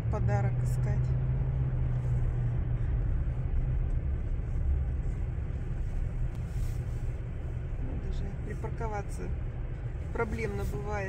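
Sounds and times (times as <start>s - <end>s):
car engine hum: 0.0s - 11.0s
road noise rumble: 0.0s - 11.0s.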